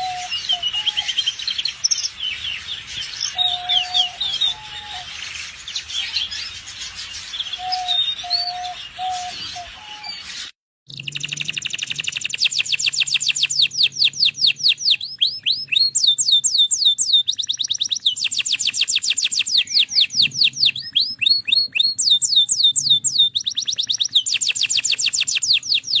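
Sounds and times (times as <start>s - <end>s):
bird chirps and whistled notes: 0.0s - 26.0s
canary trilling: 0.0s - 26.0s.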